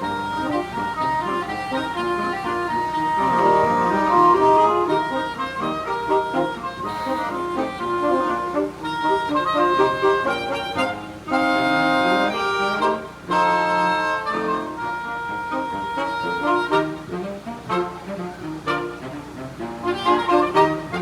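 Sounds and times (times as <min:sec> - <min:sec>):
saxophone quartet playing folk song: 0:00.0 - 0:21.0.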